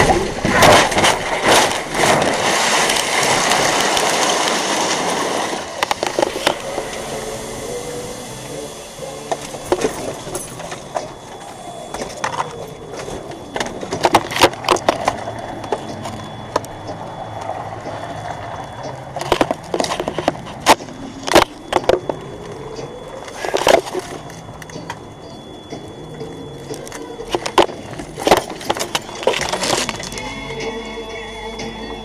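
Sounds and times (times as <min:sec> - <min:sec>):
vehicle road noise: 0:00.0 - 0:32.0.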